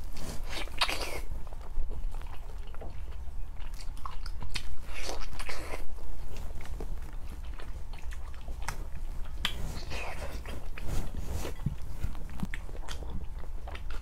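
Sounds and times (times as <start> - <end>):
biting and chewing meat: 0.0 - 14.0.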